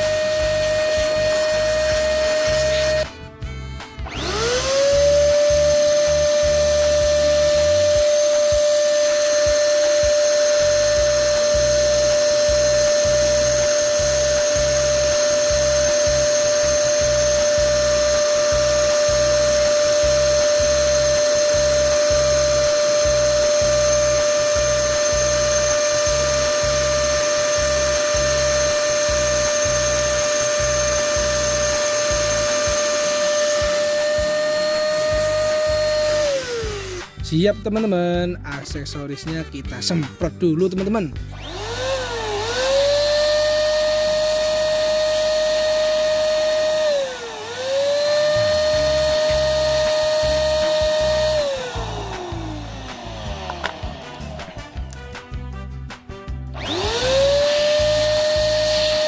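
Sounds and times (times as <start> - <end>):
power tool motor whine: 0.0 - 37.2, 41.3 - 55.6, 56.4 - 59.0.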